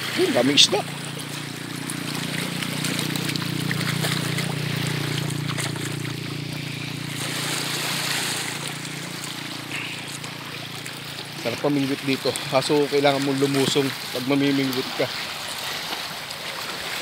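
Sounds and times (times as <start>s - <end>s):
lake waves lapping on shore: 0.0s - 17.0s.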